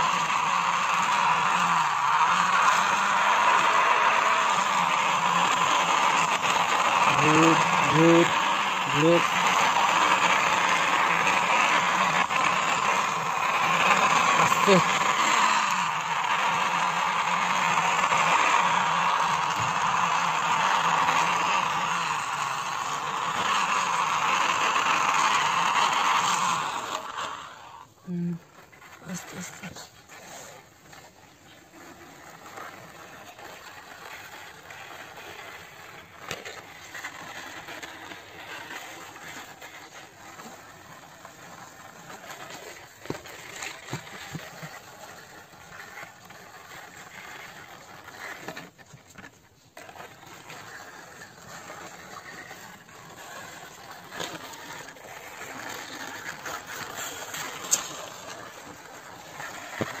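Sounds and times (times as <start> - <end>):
toy wheels rolling on cement: 0.0 - 60.0.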